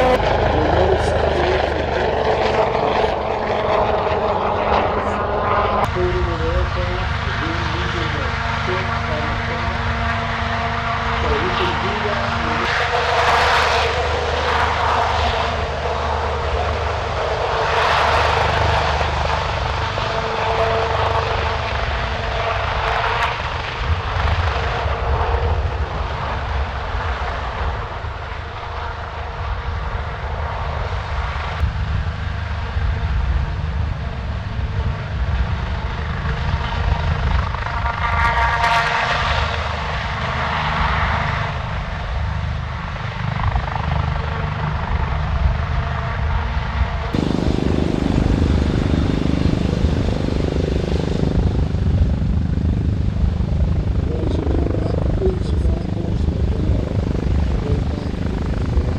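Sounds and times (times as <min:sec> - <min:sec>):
helicopter rotors beating: 0:00.0 - 0:27.8, 0:31.3 - 0:58.9.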